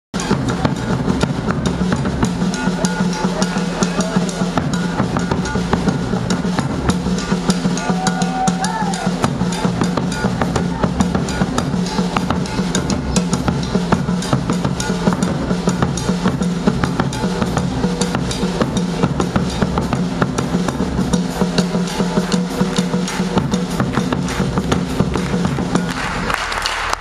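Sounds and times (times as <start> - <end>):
drums playing fast groove: 0.1 - 27.0.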